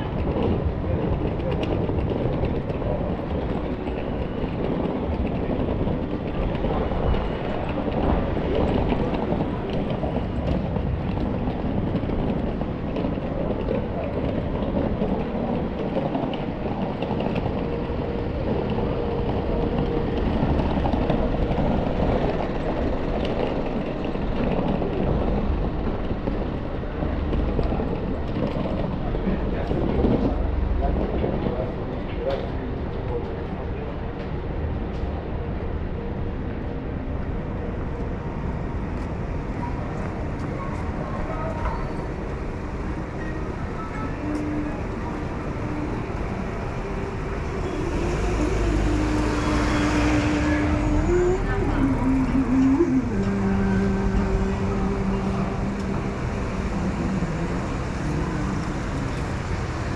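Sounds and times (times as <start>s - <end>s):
city street traffic rumble: 0.0s - 59.9s.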